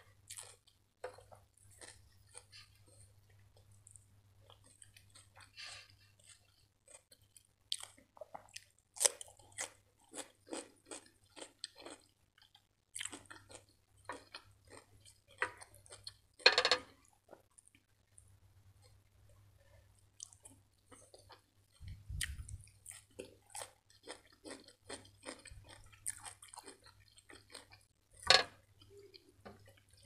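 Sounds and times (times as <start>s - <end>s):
person chewing crunchy food: 0.1s - 19.1s, 20.0s - 30.0s.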